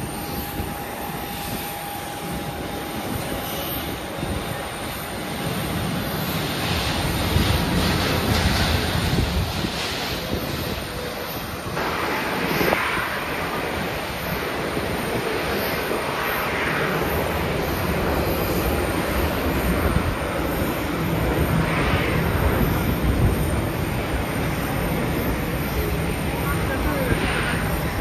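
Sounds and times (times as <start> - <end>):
jet engines rushing and rumbling: 0.0 - 28.0.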